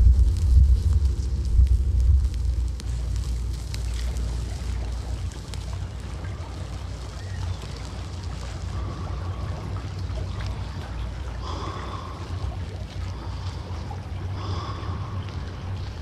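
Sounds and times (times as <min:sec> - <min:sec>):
low rumble: 0:00.0 - 0:16.0
water lapping against boat hull: 0:02.7 - 0:16.0.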